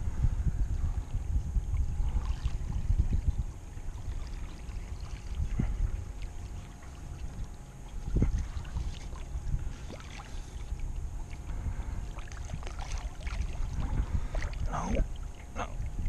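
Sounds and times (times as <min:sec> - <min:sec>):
faint steady whine: 0:00.0 - 0:16.0
wind rumbling on microphone: 0:00.0 - 0:16.0
water lapping: 0:00.8 - 0:16.0.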